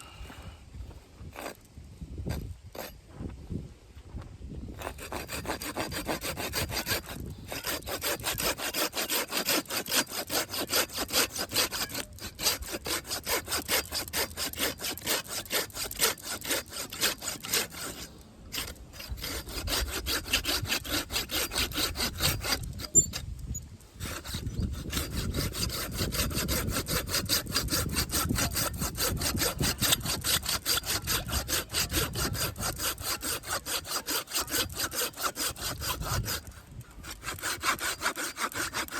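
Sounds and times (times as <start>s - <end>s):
hand saw cutting wood: 1.3s - 3.0s, 4.7s - 38.9s.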